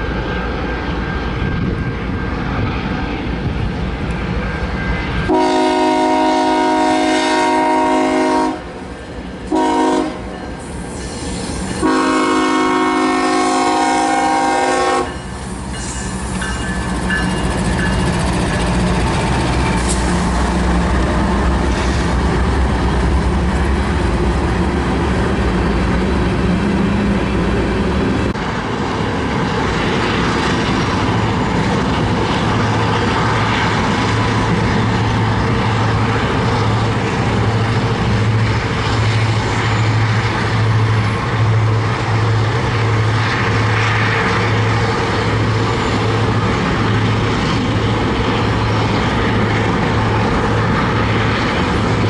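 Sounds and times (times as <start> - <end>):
railcars rolling: 0.0 - 52.0.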